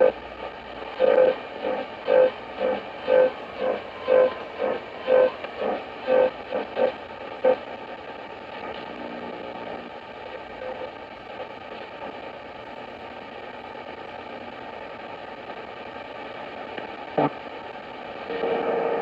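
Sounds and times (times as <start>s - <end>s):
faint radio tones: 0.0s - 19.0s
radio static hiss: 0.0s - 19.0s.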